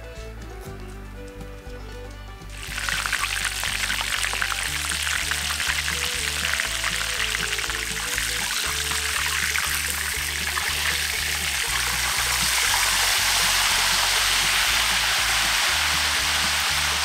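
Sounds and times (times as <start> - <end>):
background music with bass line: 0.0 - 17.0
oil bubbling and sizzling: 2.5 - 17.0.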